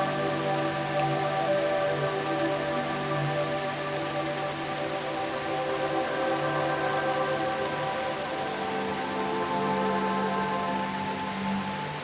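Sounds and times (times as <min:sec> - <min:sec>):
soft ambient music: 0:00.0 - 0:12.0
steady rain falling: 0:00.0 - 0:12.0.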